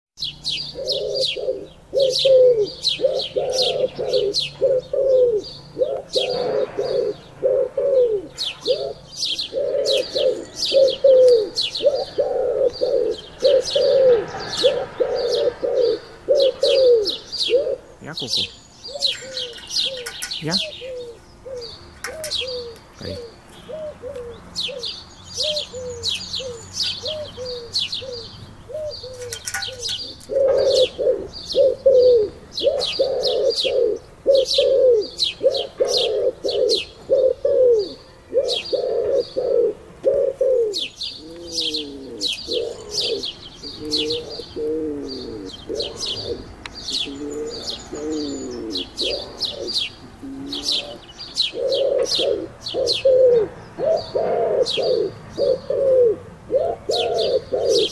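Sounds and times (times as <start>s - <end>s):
pigeons cooing: 0.2s - 57.9s
small birds chirping: 0.2s - 57.9s.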